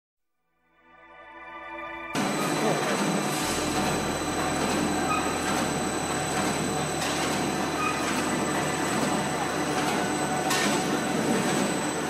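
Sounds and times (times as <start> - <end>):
machine drone with high whine: 1.7 - 12.0.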